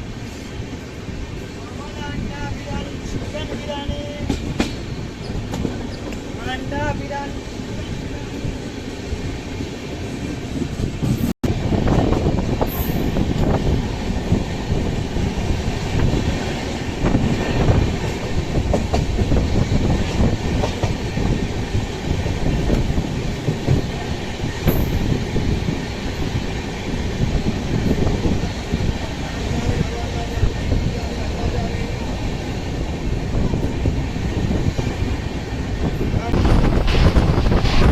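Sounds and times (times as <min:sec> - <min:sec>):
train coaches rumbling: 0:00.0 - 0:37.9.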